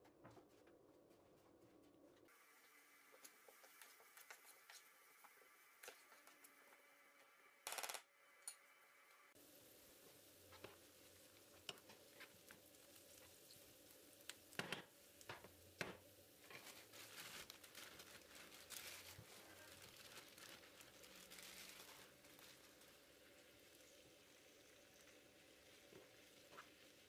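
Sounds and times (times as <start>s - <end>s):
onions sizzling in frying pan: 2.3s - 7.1s, 8.9s - 27.0s.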